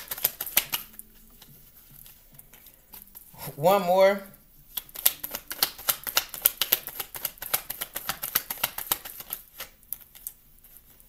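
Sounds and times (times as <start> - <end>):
cards being shuffled: 0.0 - 3.6, 4.7 - 11.0.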